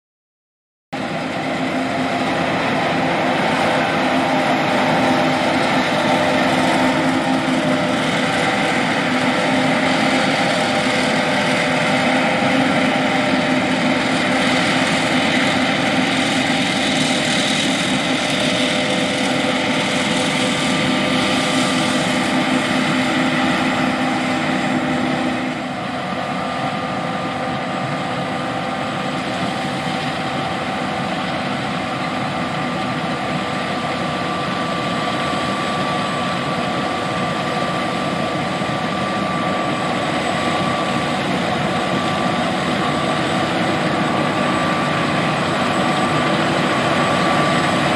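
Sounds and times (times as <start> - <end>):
combine harvester droning: 1.0 - 47.9
steady machine whine: 1.0 - 47.9.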